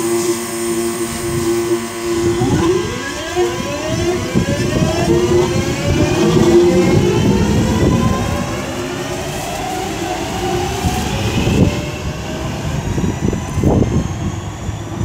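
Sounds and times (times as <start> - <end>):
electric train traction whine: 0.0 - 15.0
train wheels rumbling: 1.4 - 15.0.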